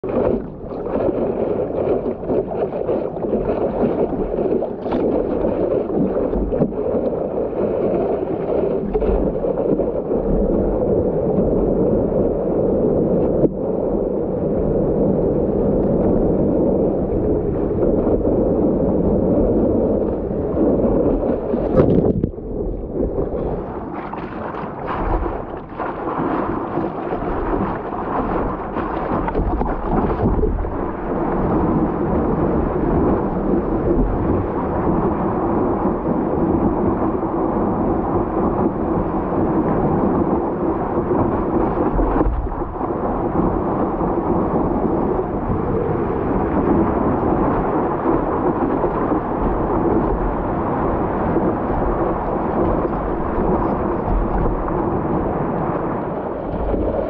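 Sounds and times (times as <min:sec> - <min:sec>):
water rushing and splashing: 0:00.0 - 0:57.0
wind on microphone: 0:00.0 - 0:57.0.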